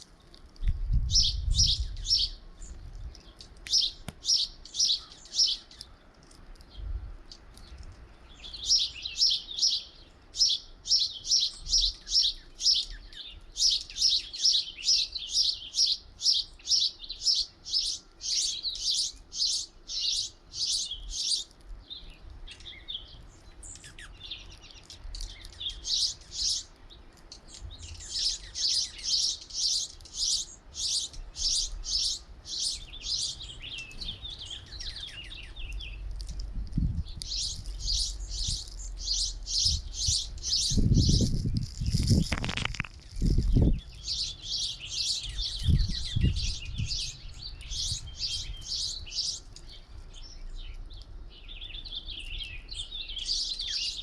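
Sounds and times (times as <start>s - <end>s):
small songbirds chirping: 0.0s - 54.0s.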